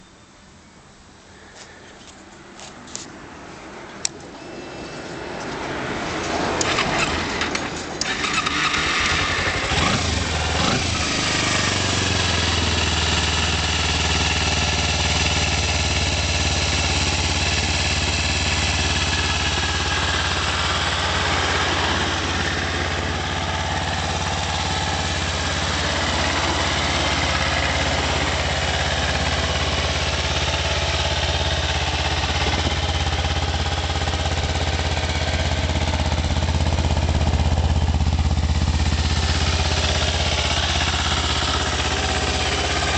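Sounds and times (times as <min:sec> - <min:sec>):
motorcycle engine starting and idling: 0:04.0 - 0:42.9.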